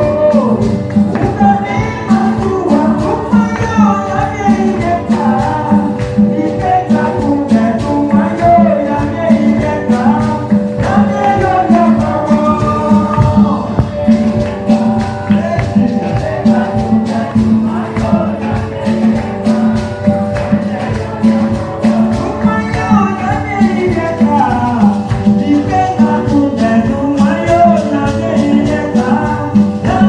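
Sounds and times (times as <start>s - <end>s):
electronic keyboard: 0.0s - 30.0s
hand claps: 0.0s - 30.0s
man singing through microphone: 0.0s - 30.0s
percussion beat: 0.0s - 30.0s.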